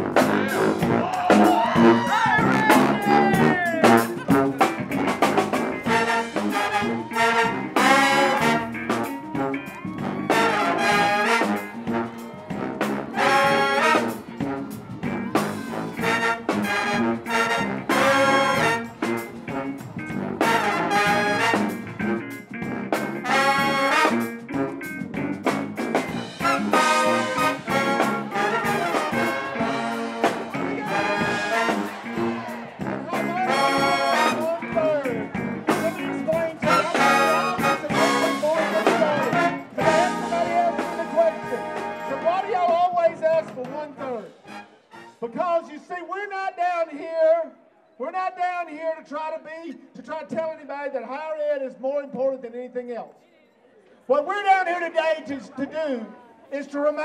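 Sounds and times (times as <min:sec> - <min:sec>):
brass band playing lively tune: 0:00.0 - 0:46.6.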